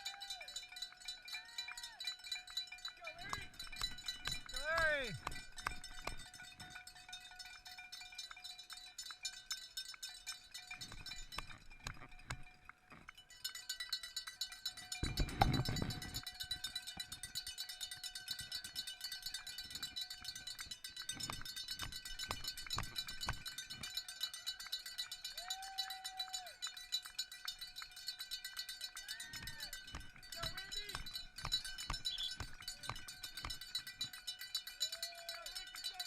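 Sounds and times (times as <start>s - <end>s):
cowbells ringing: 0.0s - 36.0s.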